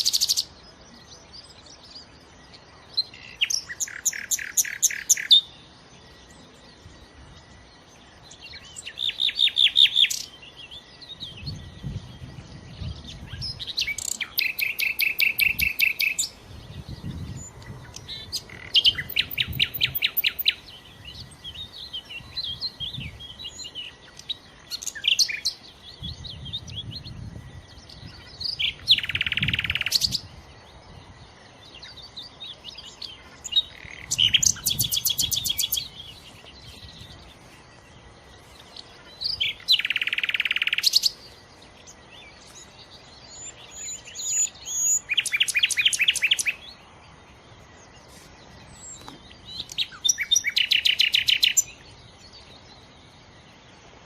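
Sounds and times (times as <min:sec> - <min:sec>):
nightingale singing: 0:00.0 - 0:54.0.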